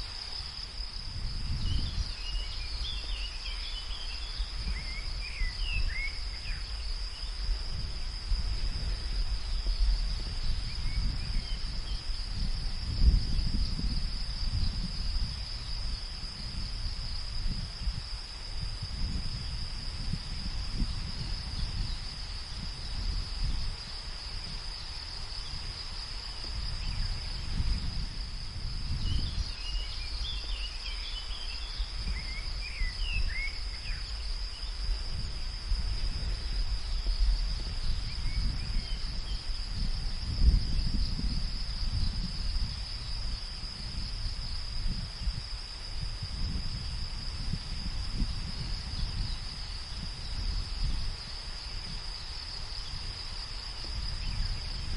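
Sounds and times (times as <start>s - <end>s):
insects chirring: 0.0s - 54.9s
wind rumbling in gusts: 0.0s - 54.9s.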